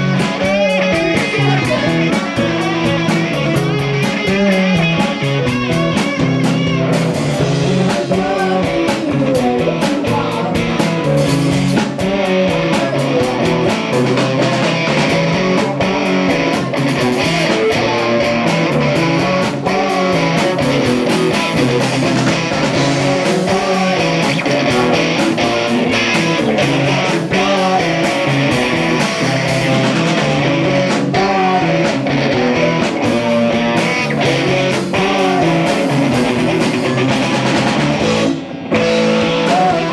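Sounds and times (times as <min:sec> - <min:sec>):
electric guitar: 0:00.0 - 0:39.9
steady drums: 0:00.0 - 0:39.9.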